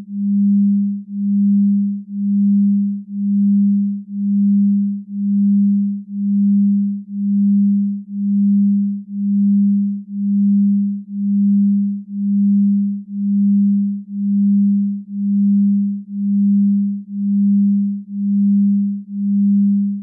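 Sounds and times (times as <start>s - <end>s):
low electronic sine tone pulsing: 0.0s - 20.0s.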